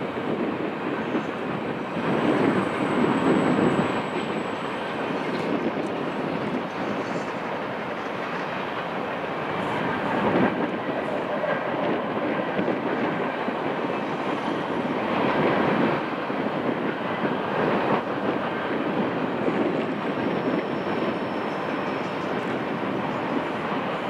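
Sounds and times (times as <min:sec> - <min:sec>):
train wheels on rails: 0:00.0 - 0:24.0.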